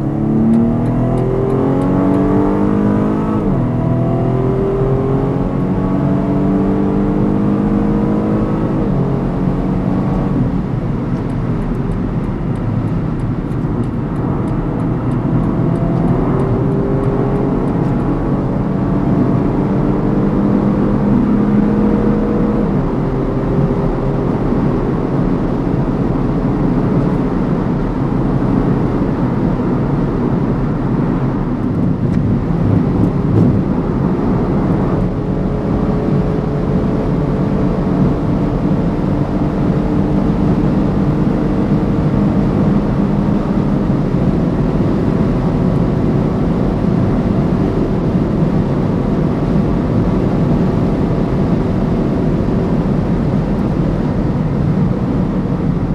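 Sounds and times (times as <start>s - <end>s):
car engine running hard: 0.0s - 55.9s
road and wind noise: 0.0s - 55.9s.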